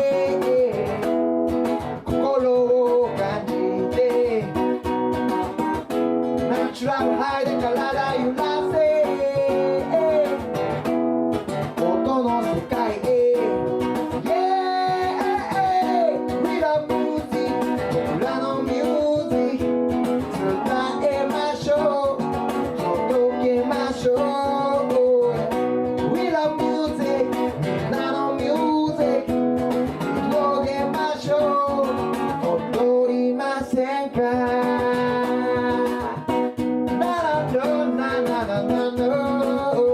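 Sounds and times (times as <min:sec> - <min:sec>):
acoustic guitar strummed: 0:00.0 - 0:39.9
man singing: 0:00.0 - 0:39.9.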